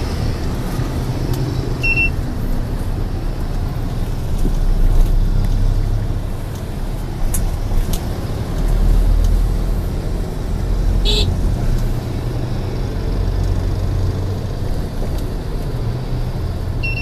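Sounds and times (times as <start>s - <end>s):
vehicle rumble: 0.0s - 17.0s.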